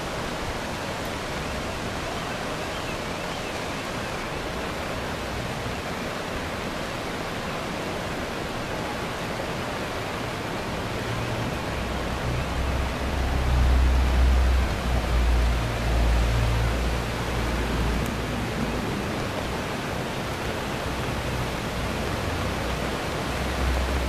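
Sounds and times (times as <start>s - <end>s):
floodwater rushing down street: 0.0s - 24.0s.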